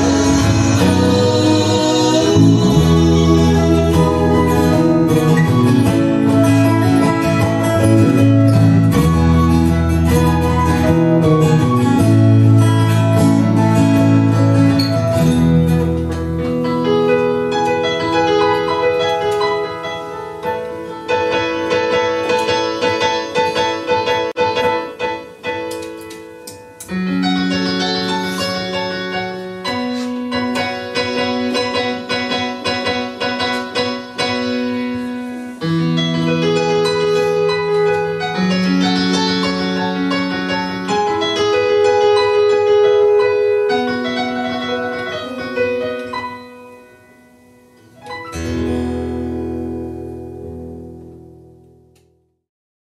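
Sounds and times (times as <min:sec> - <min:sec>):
digital piano playing chords: 0:00.0 - 0:52.2.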